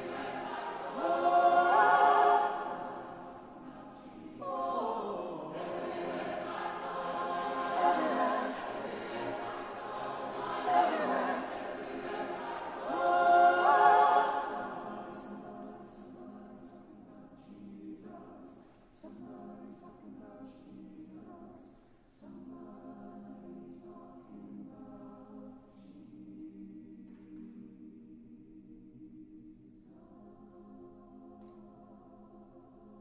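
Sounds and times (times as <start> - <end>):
choir singing a cappella: 0.0 - 33.0.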